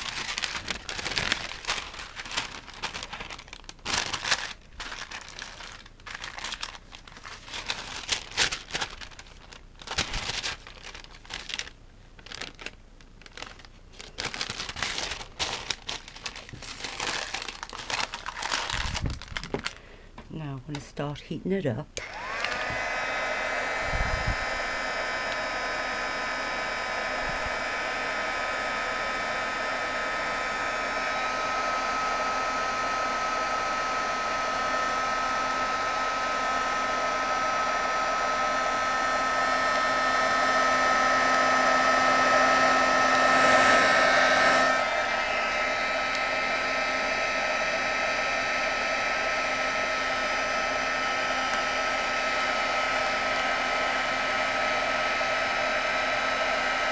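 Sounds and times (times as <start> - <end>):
heat gun blowing with whine: 0.0 - 9.4, 14.1 - 20.2, 22.0 - 56.9.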